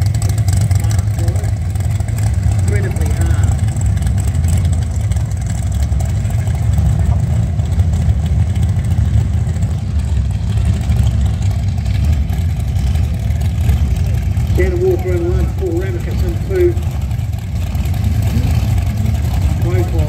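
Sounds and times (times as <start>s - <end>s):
car engines rumbling at low revs: 0.0s - 20.0s.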